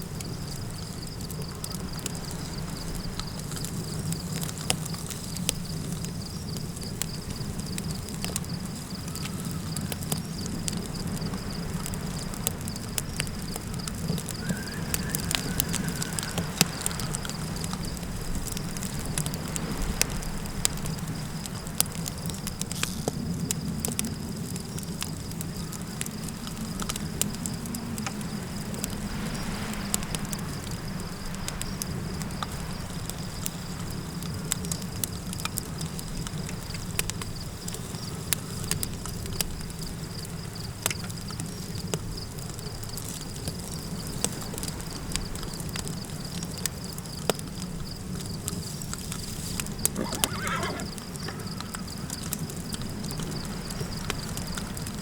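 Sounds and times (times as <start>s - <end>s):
campfire crackling and popping: 0.0s - 55.0s
crickets droning: 0.0s - 55.0s
wind: 0.0s - 55.0s.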